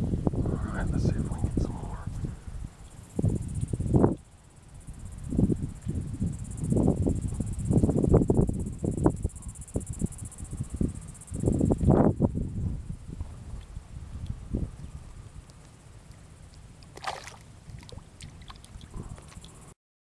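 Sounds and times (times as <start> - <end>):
insects buzzing: 0.0 - 19.8.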